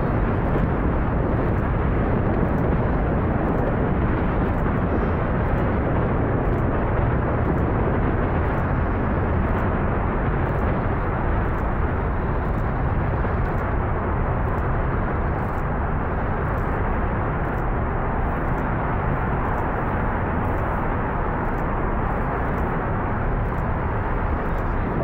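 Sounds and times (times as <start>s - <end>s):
rocket engines rumbling: 0.0s - 25.0s.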